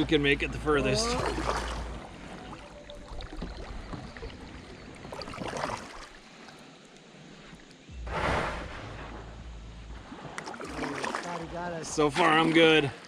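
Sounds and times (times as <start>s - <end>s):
faint water around hull: 0.0s - 13.0s
water swish: 0.0s - 13.0s.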